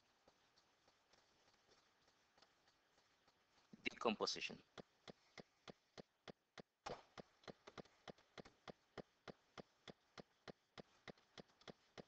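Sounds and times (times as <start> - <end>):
faint rhythmic clicks: 0.0 - 12.0.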